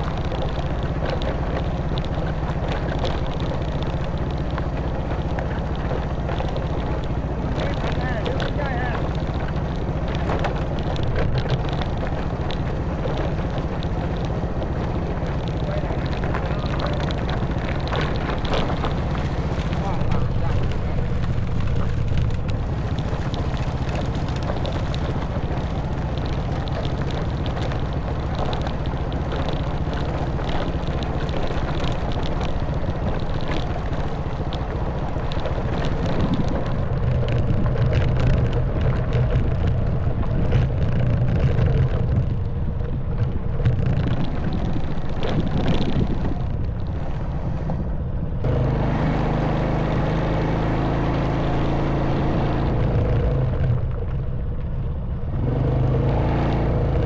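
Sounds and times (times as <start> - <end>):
knocks and rattles on rough track: 0.0 - 57.0
motorbike engine running: 0.0 - 57.0
wind noise: 0.0 - 57.0.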